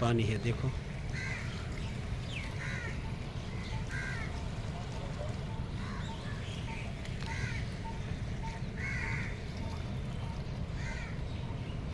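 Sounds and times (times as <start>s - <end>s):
water rumbling: 0.0s - 11.9s
wind: 0.0s - 11.9s.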